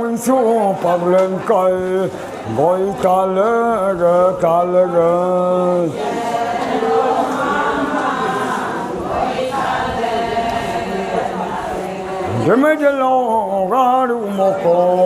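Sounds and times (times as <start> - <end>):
lead voice singing: 0.0 - 15.0
chorus singing in unison: 0.8 - 15.0.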